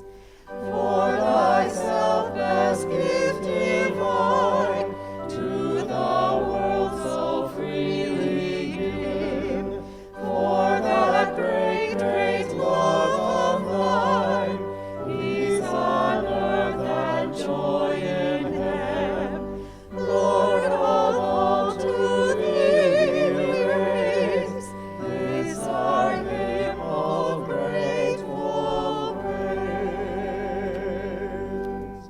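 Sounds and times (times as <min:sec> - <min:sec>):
choir singing a hymn: 0:00.0 - 0:32.0
held accompaniment chords: 0:00.0 - 0:32.0.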